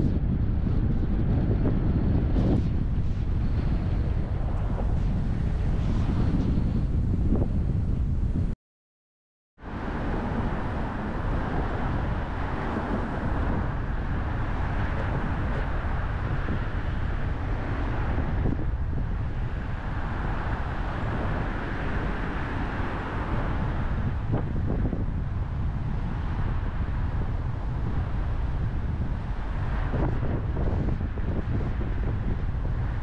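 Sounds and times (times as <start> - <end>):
wind noise: 0.0 - 8.6, 9.6 - 33.0.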